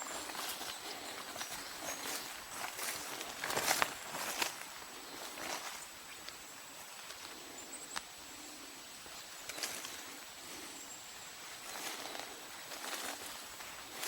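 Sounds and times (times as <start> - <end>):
footsteps through undergrowth: 0.0 - 8.2, 9.0 - 14.0
rustling in undergrowth: 0.0 - 14.0.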